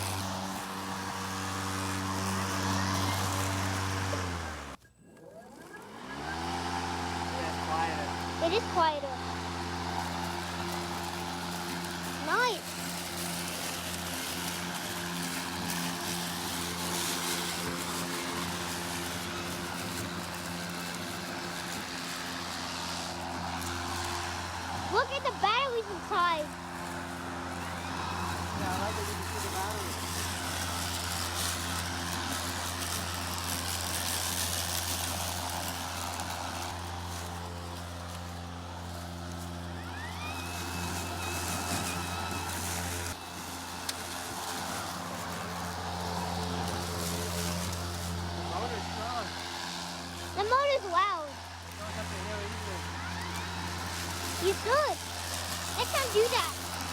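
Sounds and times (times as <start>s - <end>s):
electric lawn mower running: 0.0s - 56.9s.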